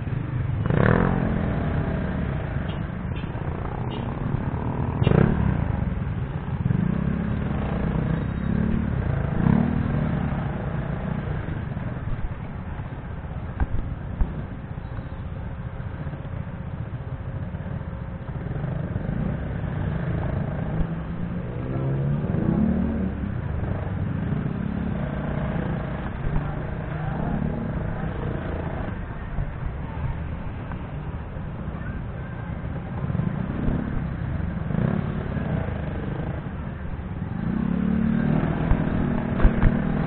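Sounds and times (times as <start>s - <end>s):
motorcycle engines revving: 0.0s - 40.0s
street traffic: 0.0s - 40.0s.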